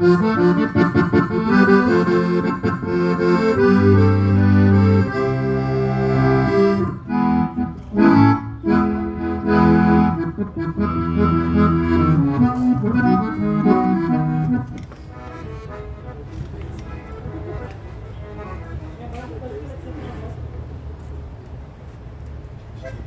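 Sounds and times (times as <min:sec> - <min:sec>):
accordion playing a melody: 0:00.0 - 0:19.2.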